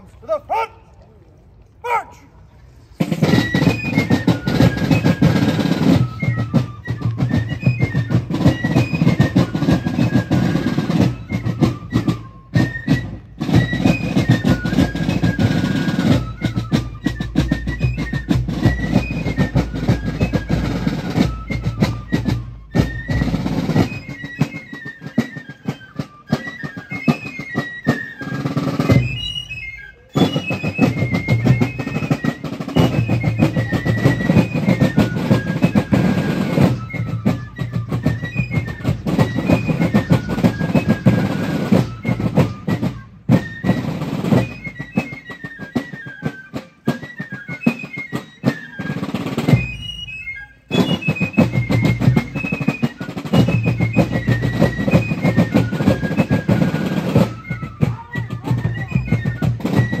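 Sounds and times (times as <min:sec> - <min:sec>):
snare drums rolling: 0:03.0 - 0:29.6, 0:30.2 - 1:00.0
fifes playing march melody: 0:03.0 - 0:59.8.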